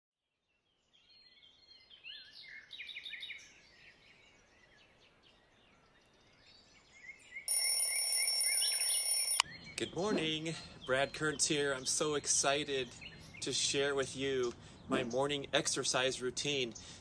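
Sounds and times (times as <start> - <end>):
birds singing: 0.6 - 17.0.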